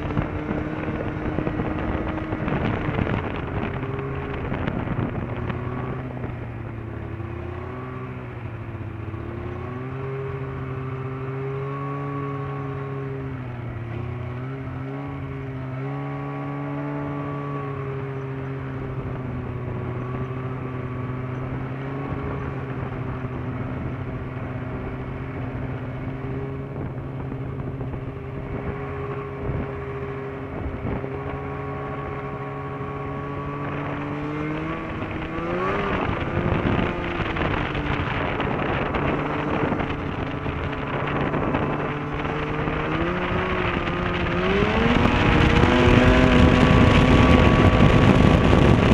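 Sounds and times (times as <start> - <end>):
snowmobile engine running: 0.0 - 48.9.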